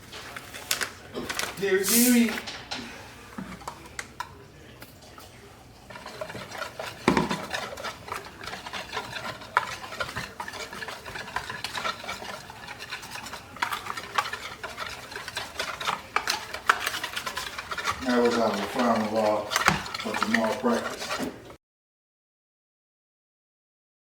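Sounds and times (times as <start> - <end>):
utensil stirring in a mixing bowl: 0.0 - 21.6.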